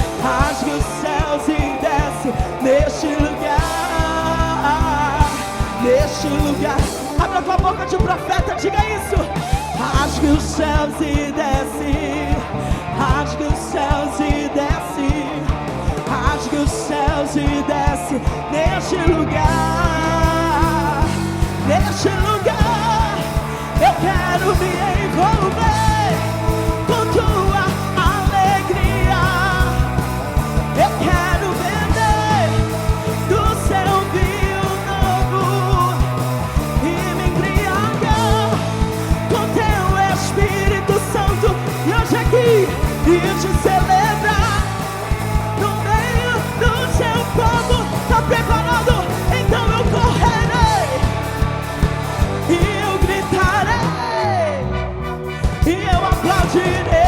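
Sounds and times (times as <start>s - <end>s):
people singing: 0.0s - 54.8s
live band playing worship music: 0.0s - 57.0s.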